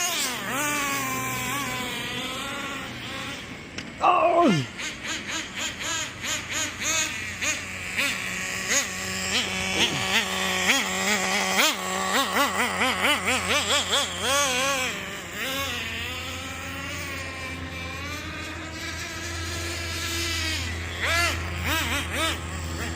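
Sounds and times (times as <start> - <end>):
model car engine revving: 0.0 - 22.9.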